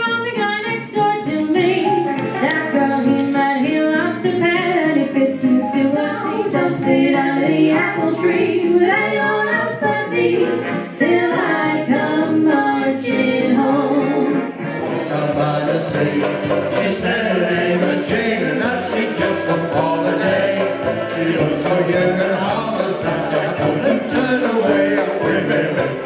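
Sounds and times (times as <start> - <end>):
music: 0.0 - 26.0
women singing together: 0.0 - 26.0.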